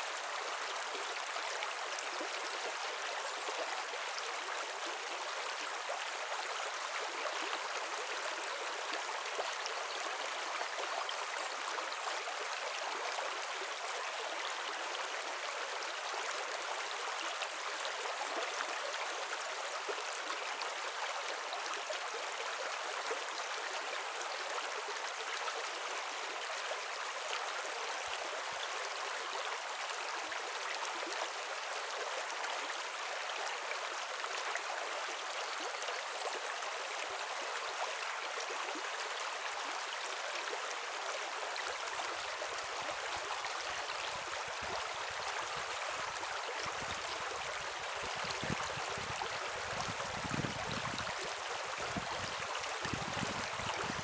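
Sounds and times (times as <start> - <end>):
brook babbling over pebbles: 0.0 - 54.0.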